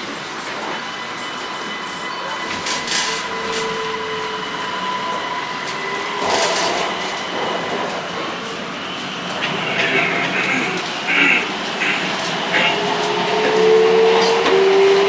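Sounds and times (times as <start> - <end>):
metro train electric whine: 0.0 - 15.0.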